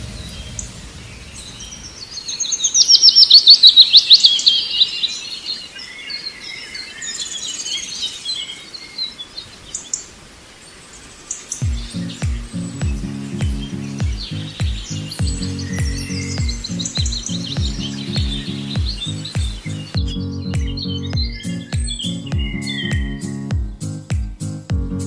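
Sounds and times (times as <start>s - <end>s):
soft bird chirps: 0.0s - 25.0s
songbird trilling: 1.3s - 10.1s, 11.3s - 24.7s.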